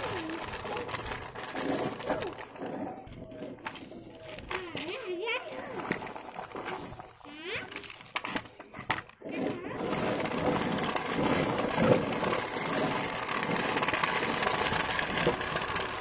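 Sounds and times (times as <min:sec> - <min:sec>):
toy truck wheels rattling on ground: 0:00.0 - 0:16.0.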